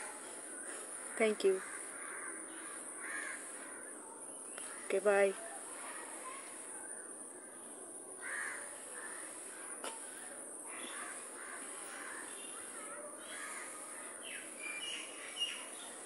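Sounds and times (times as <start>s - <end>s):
birds calling: 0.0s - 16.0s
steady high-pitched hiss: 0.0s - 16.0s.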